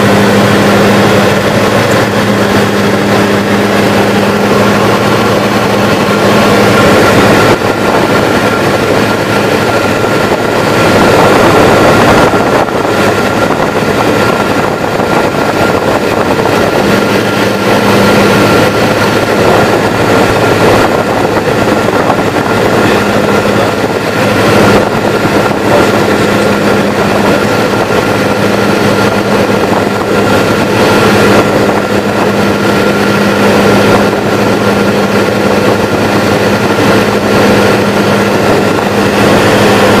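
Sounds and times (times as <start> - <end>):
propeller engine droning: 0.0 - 40.0
rush of air noise: 0.0 - 40.0.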